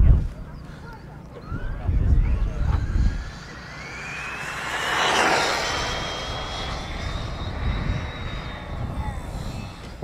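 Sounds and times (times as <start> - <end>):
rc car electric motor whining: 1.4 - 10.0.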